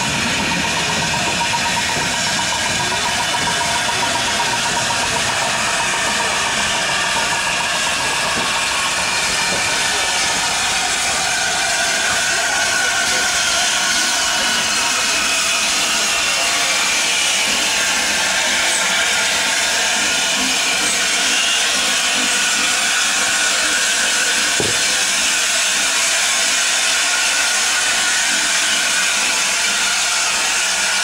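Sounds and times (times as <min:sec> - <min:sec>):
steam locomotive hissing steam: 0:00.0 - 0:31.0.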